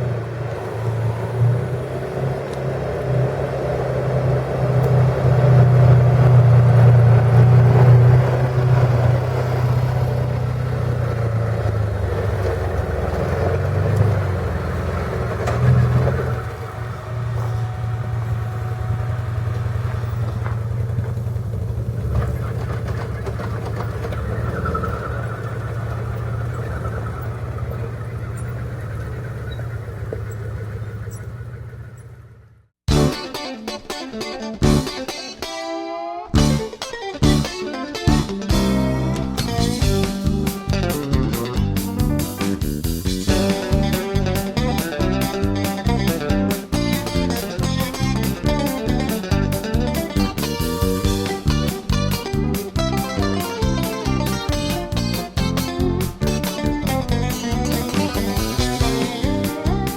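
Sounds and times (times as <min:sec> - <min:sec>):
vehicle engine running: 0:00.0 - 0:33.2, 0:36.4 - 0:59.9.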